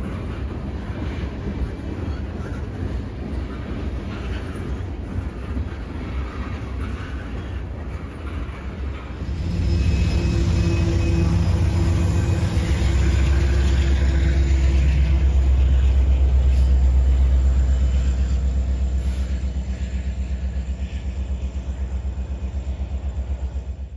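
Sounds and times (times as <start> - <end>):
diesel locomotives passing: 0.0 - 23.9.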